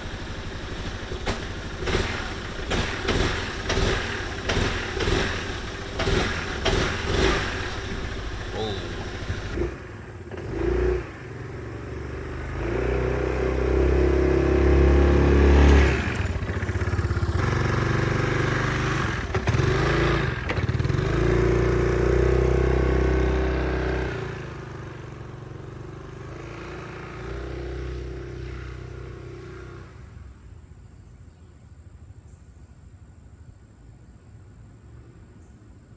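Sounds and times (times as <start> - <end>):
scooter engine revving: 0.0 - 30.4.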